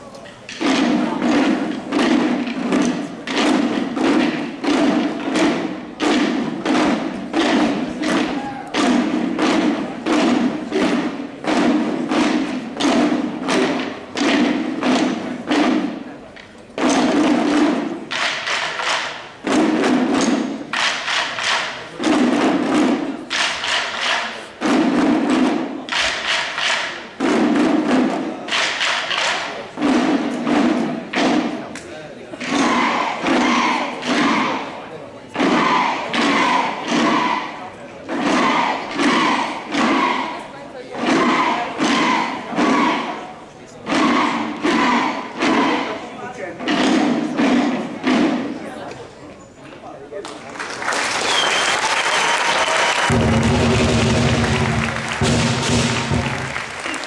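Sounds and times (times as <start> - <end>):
drums beating in a hall: 0.0 - 57.0.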